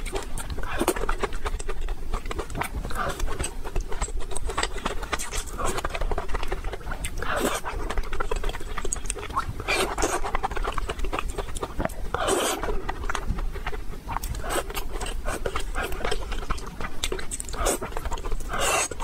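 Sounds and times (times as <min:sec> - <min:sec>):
lip smacking: 0:00.0 - 0:19.0
wet chewing: 0:00.0 - 0:19.0.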